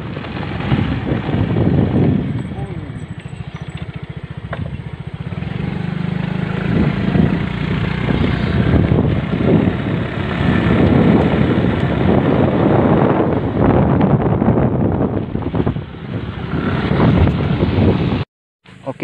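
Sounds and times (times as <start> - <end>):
small motorcycle engine: 0.0 - 18.1.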